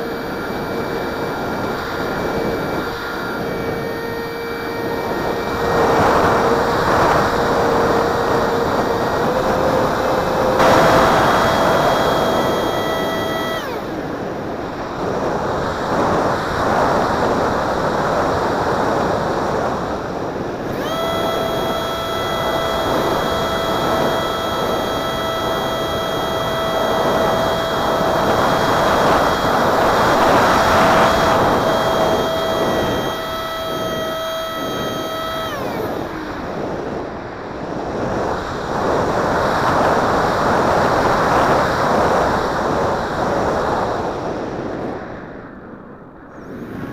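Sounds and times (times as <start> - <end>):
electric fan whine: 0.0 - 46.9
wind rushing over microphone: 0.0 - 46.9.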